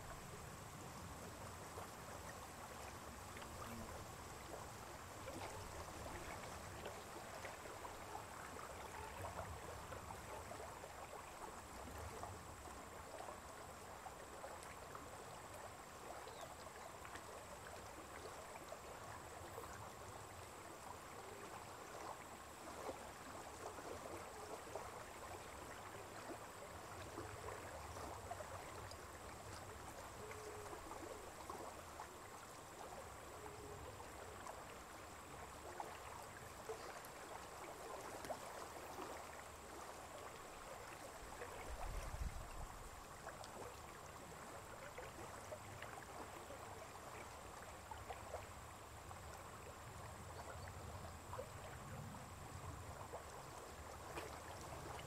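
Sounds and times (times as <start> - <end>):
water trickling and lapping: 0.0 - 55.0.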